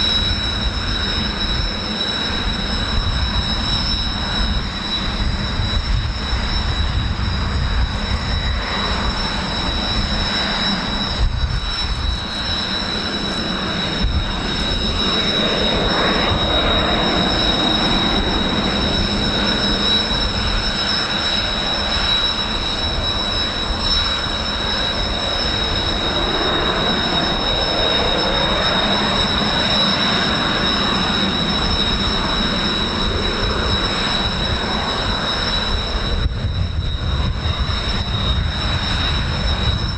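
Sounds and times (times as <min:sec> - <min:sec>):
wind rumble on microphone: 0:00.0 - 0:30.0, 0:33.0 - 0:39.9
jet engines whining: 0:00.0 - 0:39.9.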